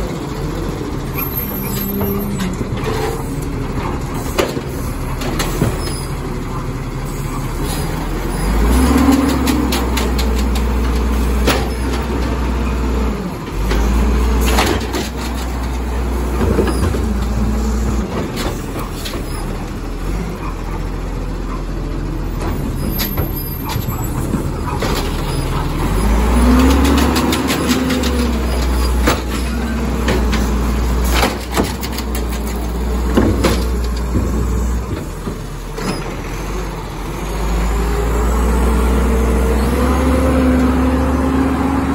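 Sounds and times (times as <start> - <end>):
diesel engine revving: 0.0 - 41.9
carts and arm clanking: 0.5 - 36.8.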